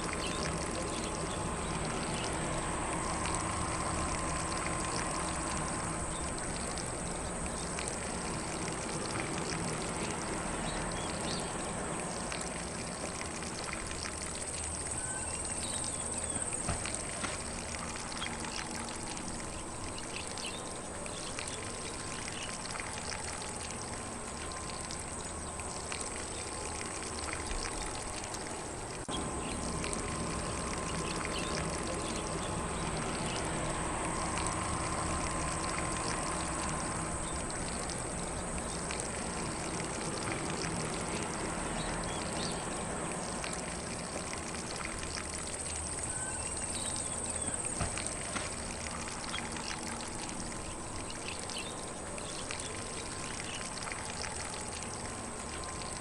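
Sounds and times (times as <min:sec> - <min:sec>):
lawn sprinkler spraying water: 0:00.0 - 0:56.0.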